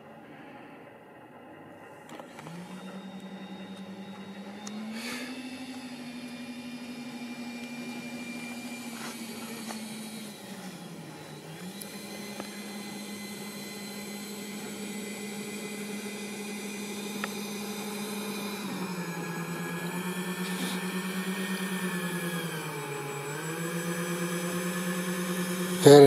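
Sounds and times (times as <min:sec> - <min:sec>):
electric ducted fans whining: 0:00.0 - 0:26.0.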